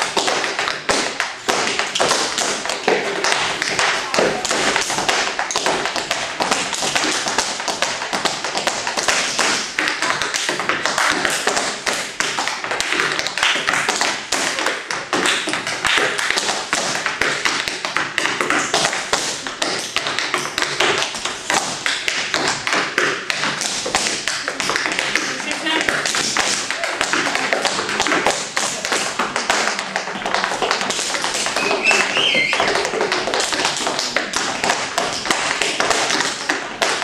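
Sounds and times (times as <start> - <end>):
tap shoes on wooden board: 0.0 - 37.0.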